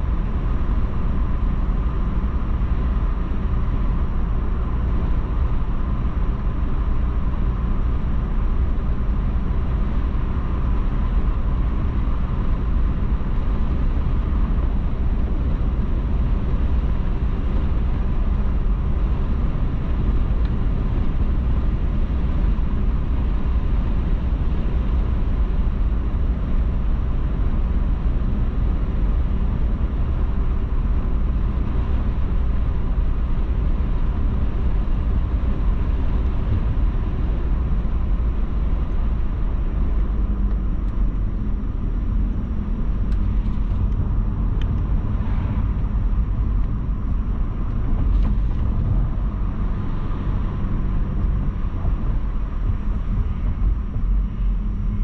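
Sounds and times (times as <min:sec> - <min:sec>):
car driving on road: 0:00.0 - 0:55.0.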